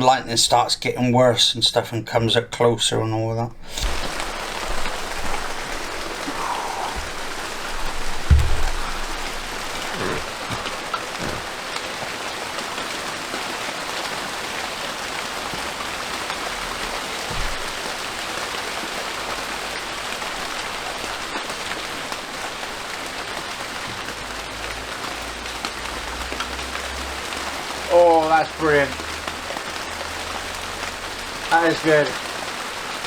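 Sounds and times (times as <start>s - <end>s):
steady rain falling: 3.4s - 33.0s.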